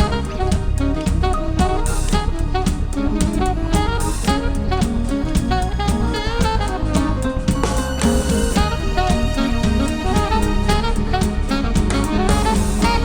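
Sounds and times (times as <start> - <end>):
jazz band playing: 0.0 - 13.0
saxophone: 0.0 - 13.0.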